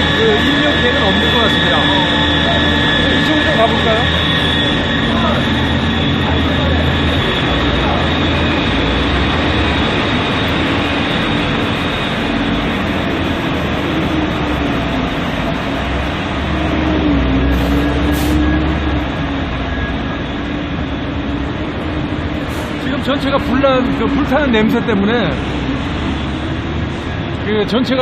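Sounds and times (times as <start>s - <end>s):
wavering hum: 0.0s - 27.4s
machinery rumble and hiss: 0.0s - 28.0s.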